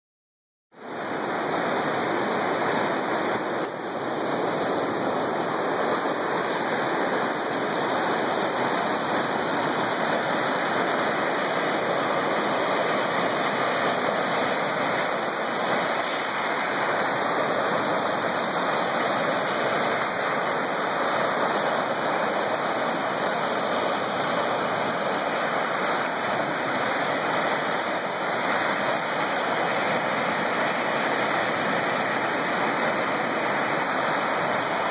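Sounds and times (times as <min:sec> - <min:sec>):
waves washing onto pebbles: 0:00.9 - 0:34.9.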